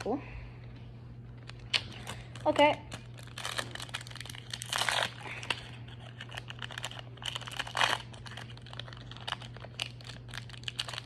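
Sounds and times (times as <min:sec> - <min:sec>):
foil wrappers crinkling: 0:01.3 - 0:11.0.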